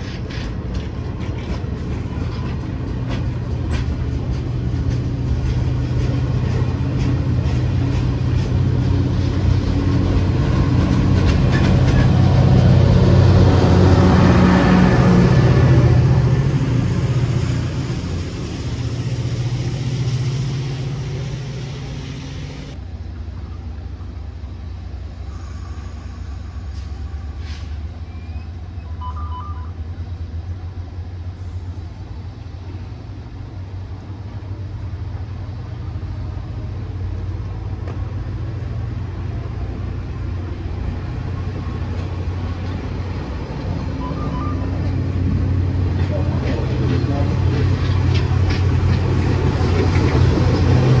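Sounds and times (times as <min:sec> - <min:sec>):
diesel train rumbling: 0:00.0 - 0:51.0.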